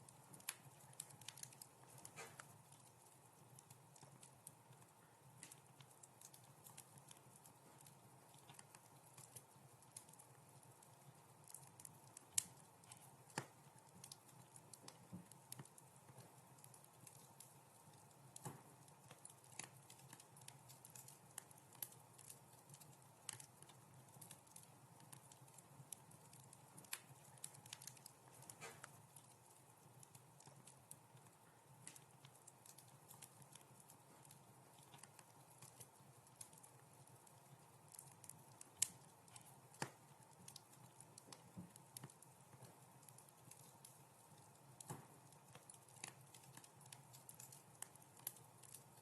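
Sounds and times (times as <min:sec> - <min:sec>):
wood fire crackling softly: 0:00.0 - 0:49.0.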